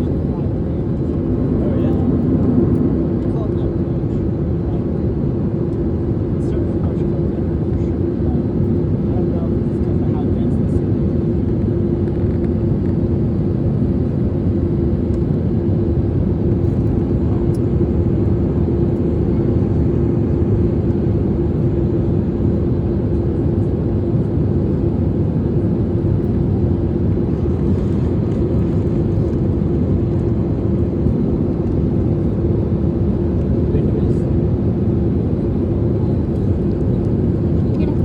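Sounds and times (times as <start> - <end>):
airliner cabin engine rush: 0.0 - 38.0
constant low hum: 0.0 - 38.0.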